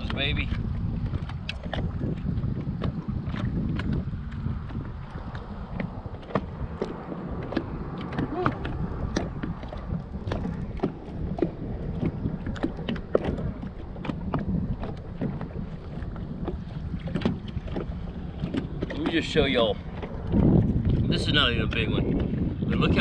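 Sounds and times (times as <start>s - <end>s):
waves lapping against boat hull: 0.0s - 23.0s
wind rumble on microphone: 0.0s - 23.0s.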